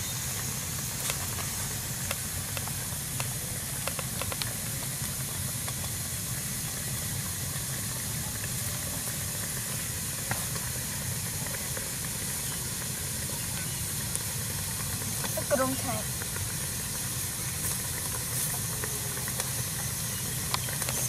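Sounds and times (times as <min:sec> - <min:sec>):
cabbage frying in a wok: 0:00.0 - 0:21.0.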